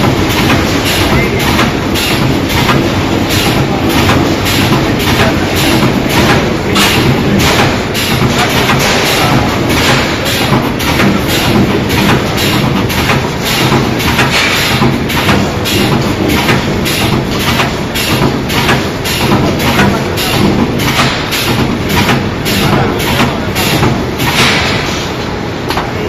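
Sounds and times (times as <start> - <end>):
spot welding head striking: 0.0 - 25.0
steady low hum: 0.0 - 26.0.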